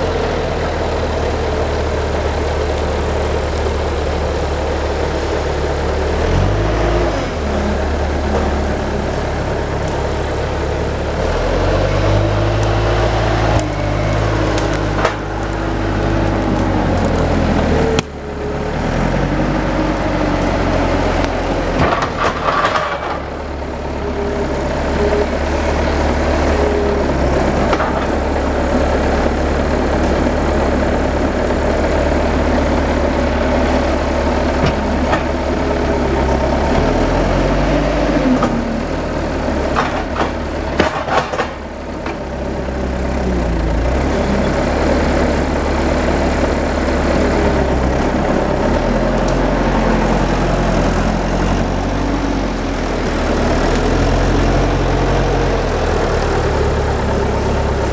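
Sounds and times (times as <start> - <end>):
heavy machine engine running: 0.0 - 57.9.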